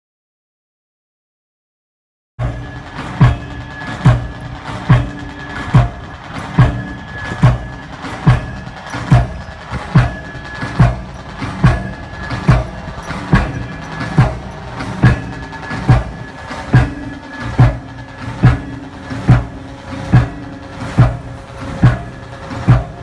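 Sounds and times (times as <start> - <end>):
machinery hum: 2.4 - 23.0
pile hammer striking: 2.4 - 23.0.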